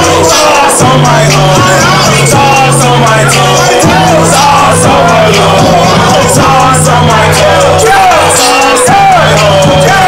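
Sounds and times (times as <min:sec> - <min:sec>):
held bass notes: 0:00.0 - 0:10.0
loud rap music: 0:00.0 - 0:10.0.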